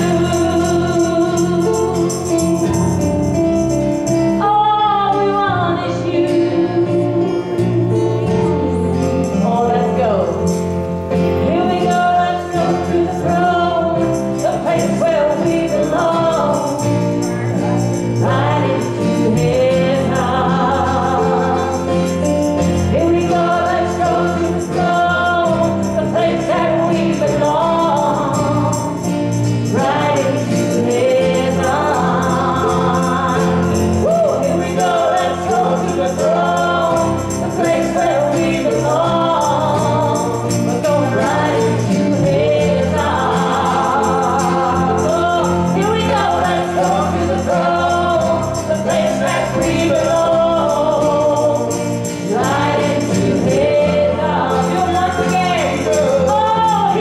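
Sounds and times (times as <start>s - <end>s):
group singing in harmony: 0.0s - 57.0s.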